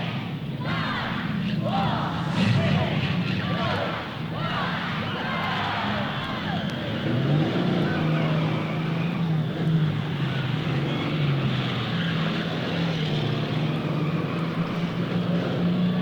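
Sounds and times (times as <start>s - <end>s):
car engines droning: 0.0s - 16.0s.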